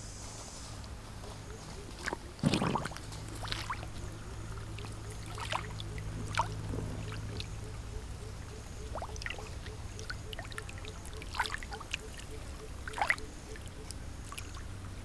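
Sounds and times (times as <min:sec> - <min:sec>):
steady low hum: 0:00.0 - 0:15.0
water splashing and sloshing: 0:01.2 - 0:15.0.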